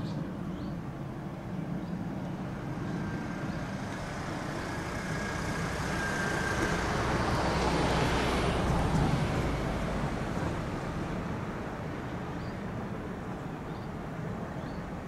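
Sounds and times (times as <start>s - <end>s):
faint high whine: 0.0s - 15.0s
jet engines rumbling: 0.0s - 15.0s.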